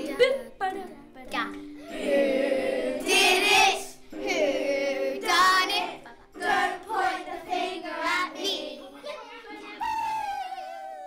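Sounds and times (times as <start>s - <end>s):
children singing: 1.8s - 11.0s.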